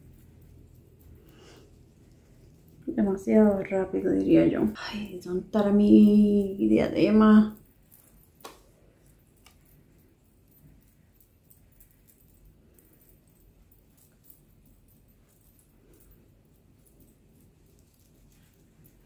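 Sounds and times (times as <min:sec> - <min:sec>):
metal bracelet clinking: 0:00.0 - 0:19.0.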